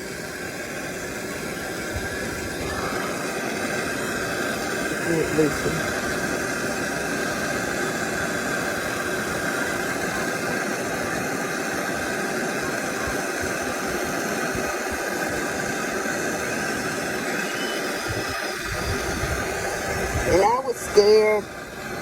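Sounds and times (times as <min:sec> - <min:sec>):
gas torch hissing: 0:00.0 - 0:22.0.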